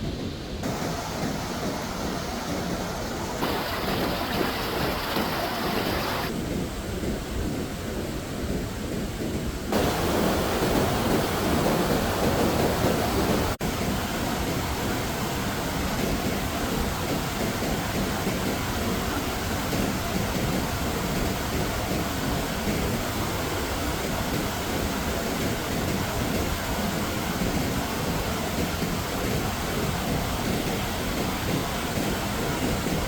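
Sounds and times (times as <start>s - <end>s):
heavy rushing water: 0.0s - 6.4s, 9.7s - 33.0s.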